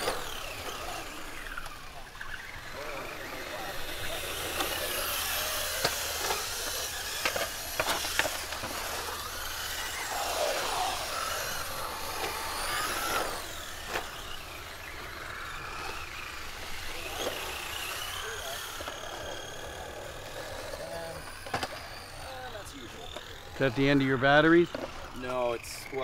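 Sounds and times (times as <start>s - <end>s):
rc truck motors whining: 0.0s - 26.0s.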